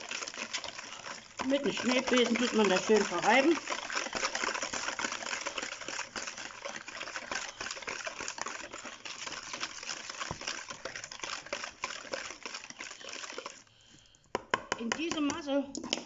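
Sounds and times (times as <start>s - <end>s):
whisk clicking against plastic bowl: 0.0s - 13.6s, 14.4s - 16.0s.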